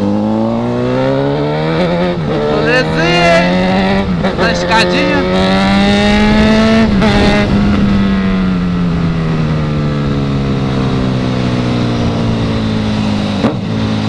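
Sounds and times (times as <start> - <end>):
motorcycle engine decelerating: 0.0 - 4.5, 5.1 - 14.0.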